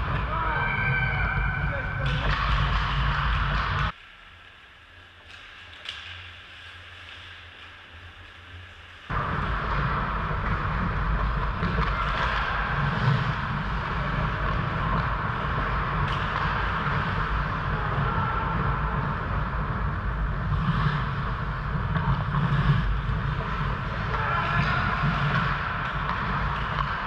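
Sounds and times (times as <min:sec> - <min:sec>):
ice rink rushing noise: 0:00.0 - 0:27.0.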